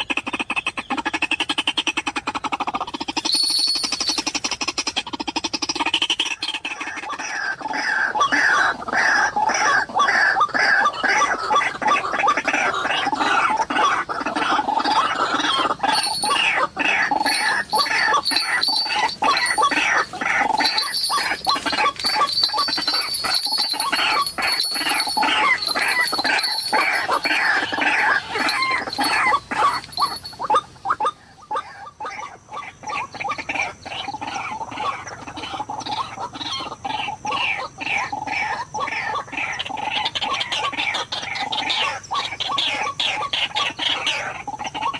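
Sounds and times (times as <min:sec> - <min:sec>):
waterhens calling harshly: 0:00.0 - 0:44.9.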